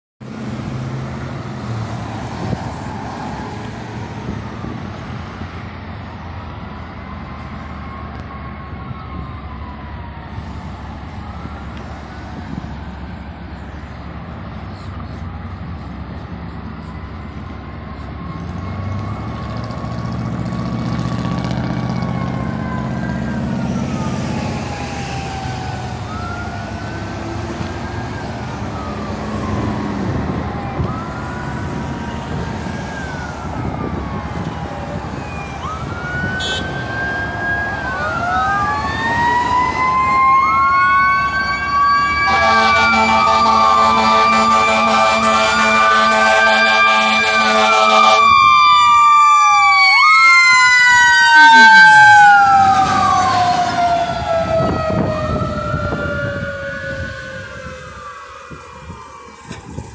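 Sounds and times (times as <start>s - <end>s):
fire engine sirens wailing: 0.2s - 59.9s
traffic engines rumbling: 0.2s - 59.9s.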